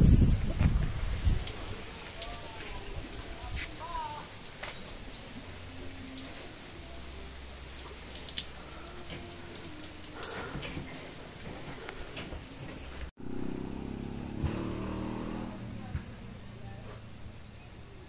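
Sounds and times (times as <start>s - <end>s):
rain patter: 0.0s - 18.0s.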